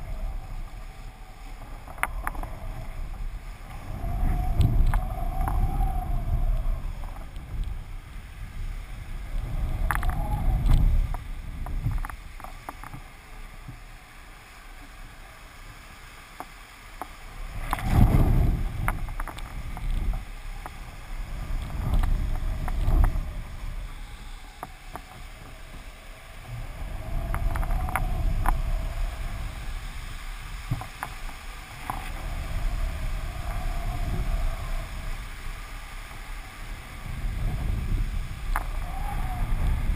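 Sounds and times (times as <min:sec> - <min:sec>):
faint wavering whine: 0:00.0 - 0:16.1, 0:17.2 - 0:39.9
wind buffeting a camera: 0:00.0 - 0:39.9.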